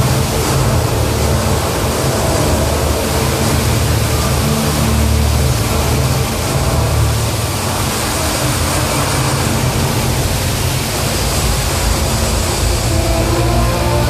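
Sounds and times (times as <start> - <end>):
fountain water cascading: 0.0 - 14.0
low hum: 0.0 - 14.0.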